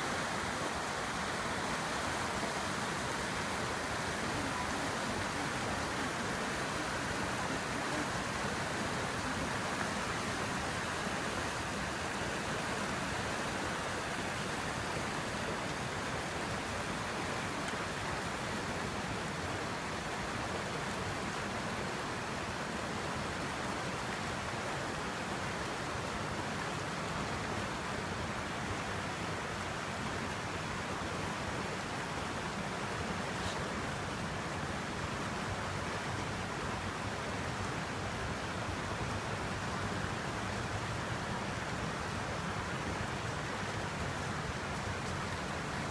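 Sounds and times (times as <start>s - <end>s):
river flowing over rocks: 0.0s - 45.9s.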